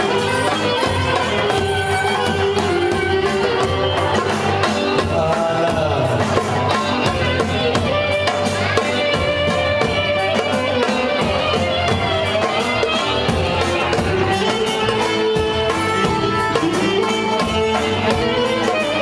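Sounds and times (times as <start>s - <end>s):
sliding melody instrument: 0.0s - 19.0s
steady drum beat: 0.0s - 19.0s.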